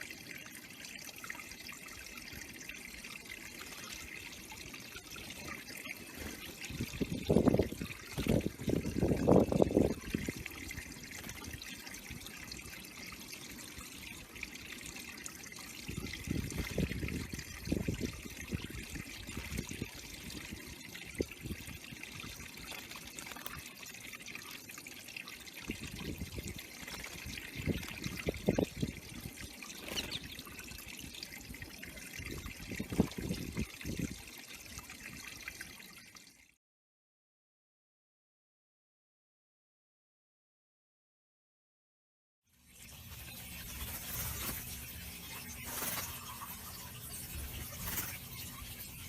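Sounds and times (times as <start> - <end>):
water trickling into pond: 0.0 - 36.6, 42.5 - 49.0.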